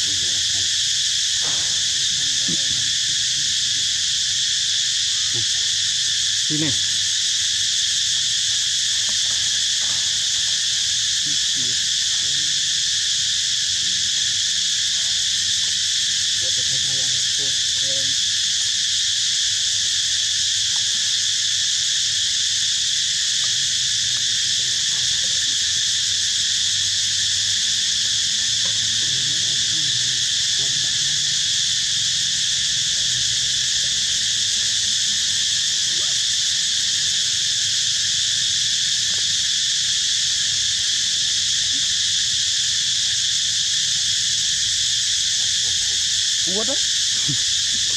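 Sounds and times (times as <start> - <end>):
insects chorus droning: 0.0 - 47.9.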